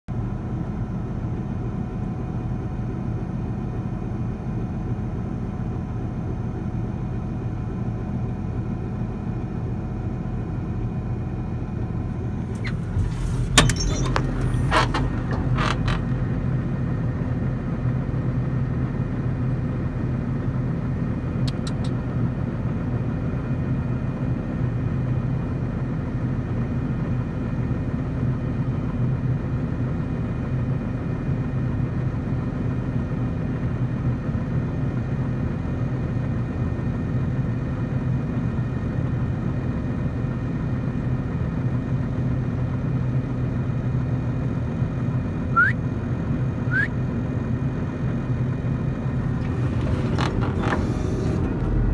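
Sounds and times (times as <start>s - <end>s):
engine idling: 0.1s - 30.4s, 37.0s - 51.9s.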